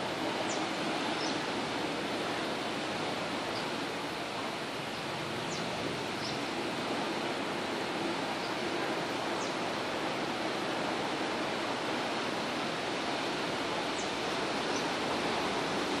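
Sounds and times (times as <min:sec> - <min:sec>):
ocean surf washing on shore: 0:00.0 - 0:16.0.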